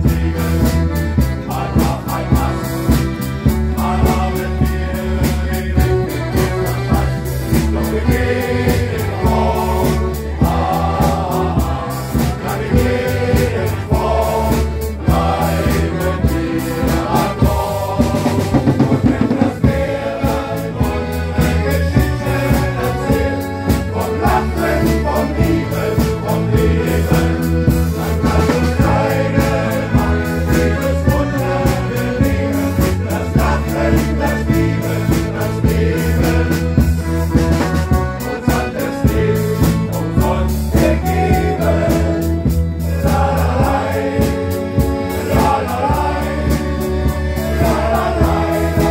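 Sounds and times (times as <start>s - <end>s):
accordions: 0.0s - 48.9s
drum kit: 0.0s - 48.9s
electric bass guitar: 0.0s - 48.9s
men's choir singing: 0.0s - 48.9s.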